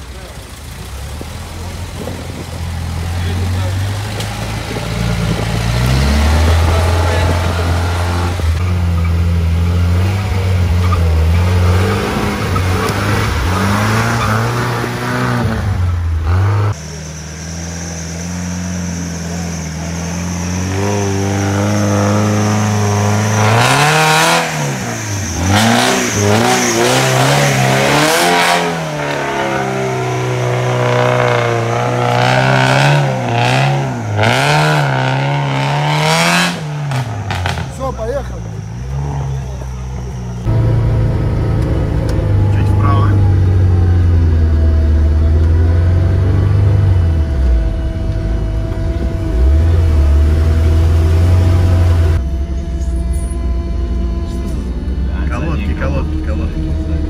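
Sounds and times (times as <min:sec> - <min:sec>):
off-road engine revving: 0:00.0 - 0:57.0.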